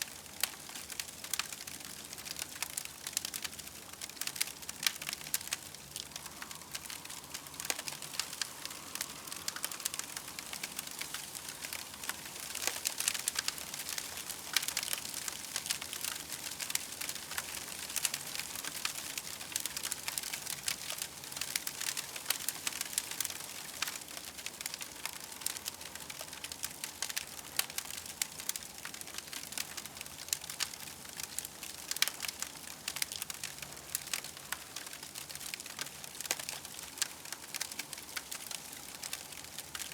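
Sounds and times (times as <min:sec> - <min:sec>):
campfire crackling and popping: 0:00.0 - 0:39.9
soft hiss: 0:00.0 - 0:39.9.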